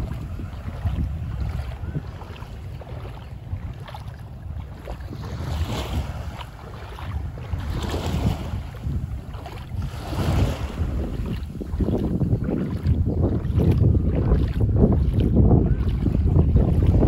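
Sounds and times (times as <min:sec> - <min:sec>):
small waves washing onto beach: 0:00.0 - 0:17.0
wind buffeting microphone: 0:00.0 - 0:17.0.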